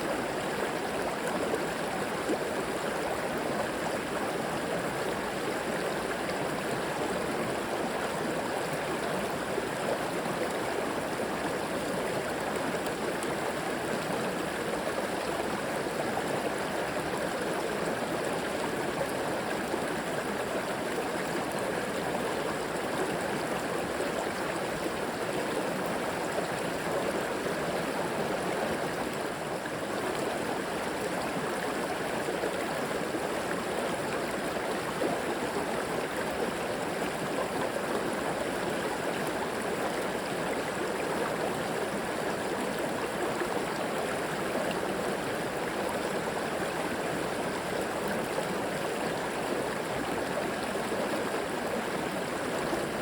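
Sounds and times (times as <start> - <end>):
river water flowing over rocks: 0.0 - 53.0.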